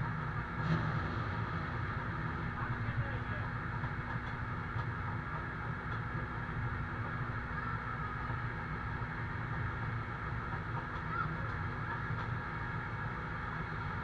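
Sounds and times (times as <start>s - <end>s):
fire truck engine droning: 0.0s - 14.0s.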